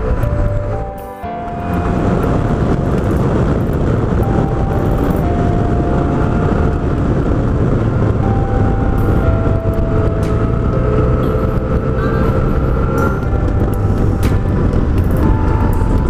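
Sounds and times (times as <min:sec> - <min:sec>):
scooter engine: 0:00.0 - 0:16.0
wind rush: 0:00.0 - 0:16.0.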